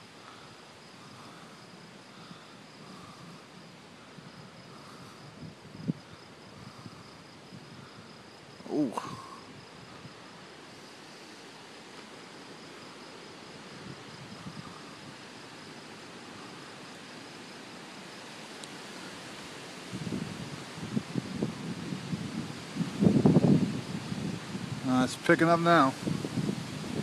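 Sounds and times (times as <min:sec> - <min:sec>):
crickets chirping: 0:00.0 - 0:27.0
faint hiss: 0:00.0 - 0:27.0.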